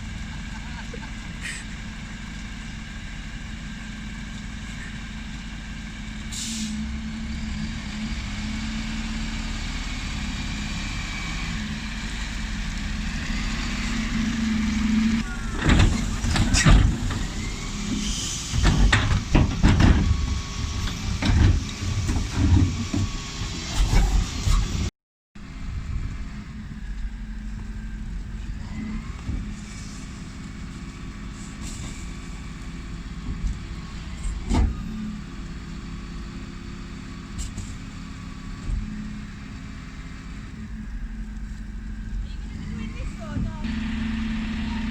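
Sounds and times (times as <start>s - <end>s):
lorry engine running: 0.0s - 23.7s, 24.8s - 44.9s
refuse lorry clanks and bangs: 0.0s - 24.9s, 27.4s - 44.9s.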